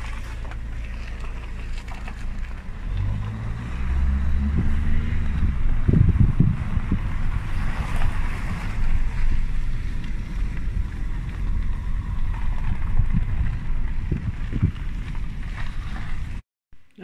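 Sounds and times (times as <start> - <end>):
car engine and road rumble: 0.0 - 17.0
wind noise on microphone: 2.3 - 16.4.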